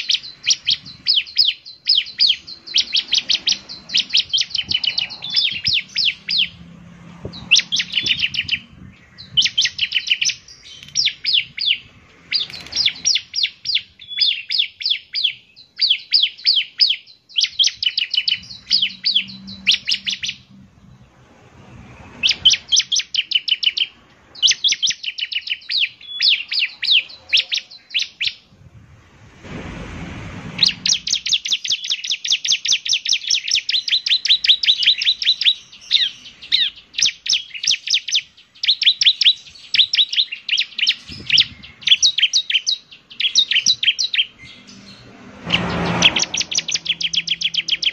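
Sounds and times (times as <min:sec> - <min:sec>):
bird singing rapid chattering notes: 0:00.0 - 0:28.5, 0:30.6 - 0:47.9.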